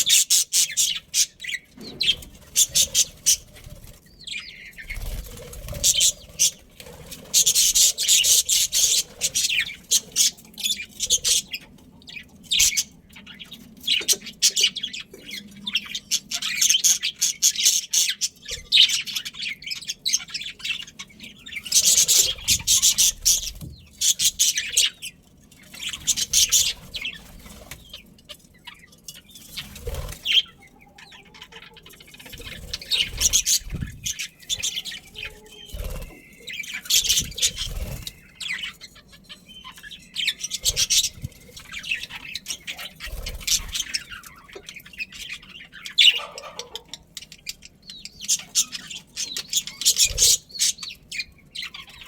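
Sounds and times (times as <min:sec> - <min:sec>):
budgerigars chattering and chirping: 0:00.0 - 0:52.0.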